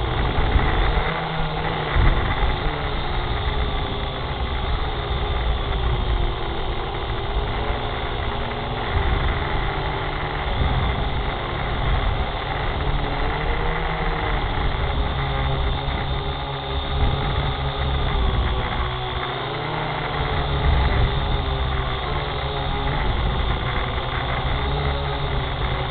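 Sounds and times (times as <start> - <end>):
drone propellers humming: 0.0 - 25.9.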